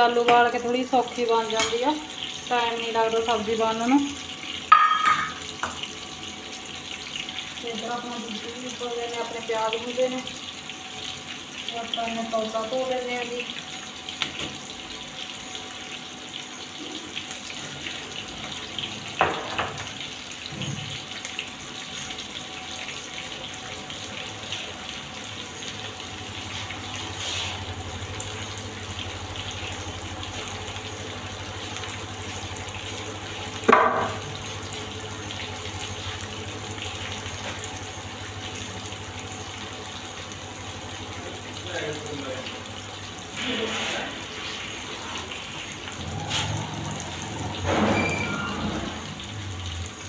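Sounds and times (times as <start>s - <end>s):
onions sizzling in hot oil: 0.0s - 50.0s.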